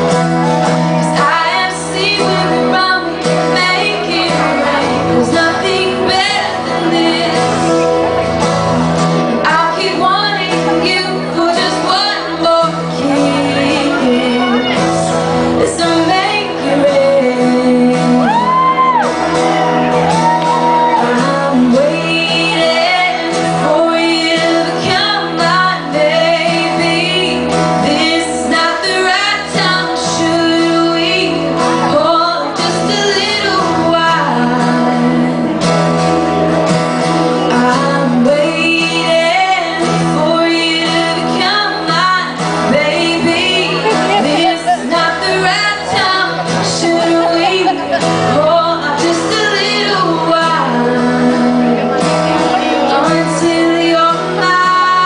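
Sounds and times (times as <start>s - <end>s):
live pop band: 0.0s - 55.0s
woman singing: 0.8s - 7.8s, 9.3s - 19.2s, 20.3s - 35.9s, 37.2s - 52.2s, 52.8s - 55.0s.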